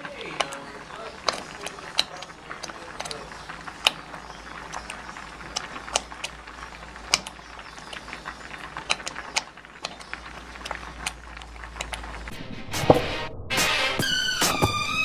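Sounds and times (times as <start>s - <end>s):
low hiss of simmering: 0.0s - 12.3s
sauce bubbles popping: 0.0s - 12.4s.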